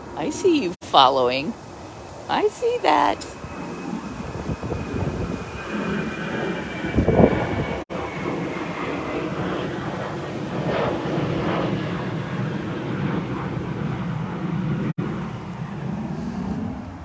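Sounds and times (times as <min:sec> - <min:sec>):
faint high whine: 0:00.0 - 0:14.3
engine-like drone: 0:00.0 - 0:17.0.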